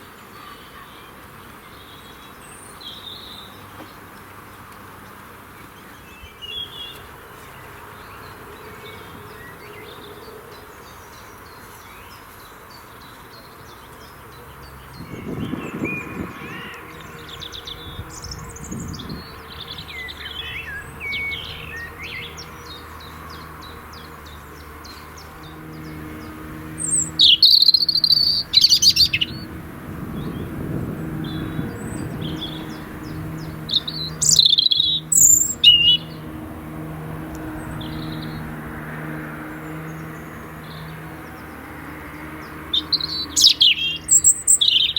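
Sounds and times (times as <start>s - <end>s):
loud close bird song: 0.0s - 44.9s
songbirds chirping and trilling: 0.0s - 44.9s.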